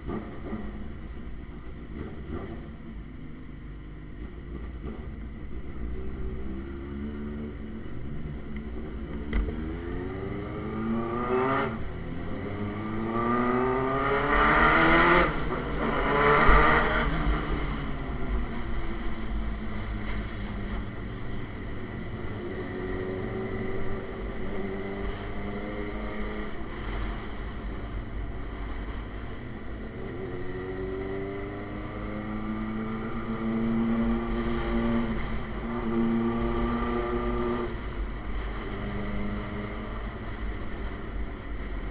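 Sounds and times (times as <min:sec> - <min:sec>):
motorcycle engine revving through gears: 0:05.9 - 0:27.8, 0:29.4 - 0:41.6.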